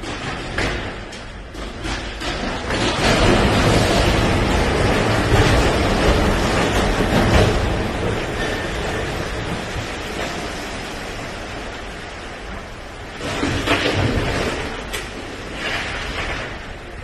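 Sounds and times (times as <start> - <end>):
churning sea water: 0.0 - 17.0.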